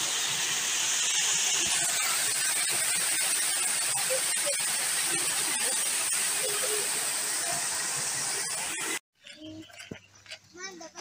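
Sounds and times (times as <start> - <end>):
fountain spray hissing: 0.0 - 9.0.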